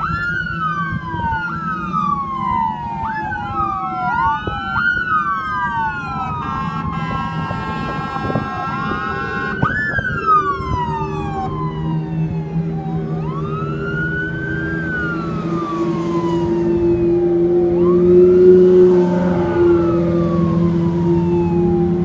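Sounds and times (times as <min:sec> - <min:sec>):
emergency siren wailing: 0:00.0 - 0:22.0.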